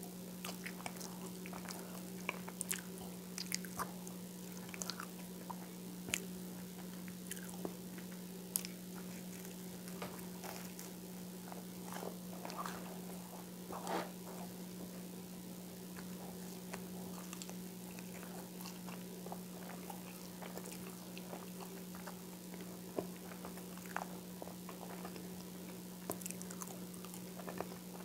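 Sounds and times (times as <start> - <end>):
chewing crunchy toast: 0.0 - 28.0
steady low hum: 0.0 - 28.0.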